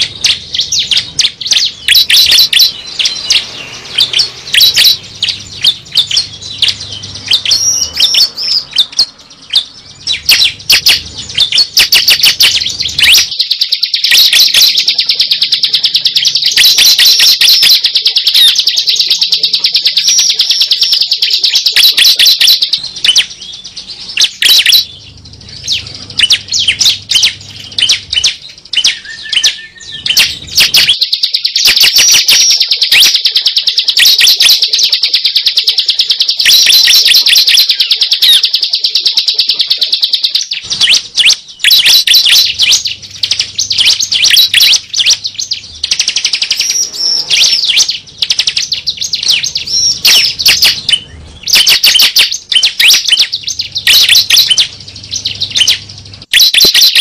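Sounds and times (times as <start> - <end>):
bird chirps and trills: 0.0 - 57.0.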